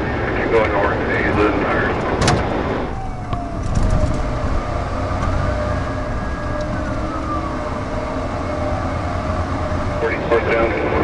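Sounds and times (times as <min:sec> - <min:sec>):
low rumble of traffic: 0:00.0 - 0:11.0
police siren wailing: 0:00.0 - 0:11.0.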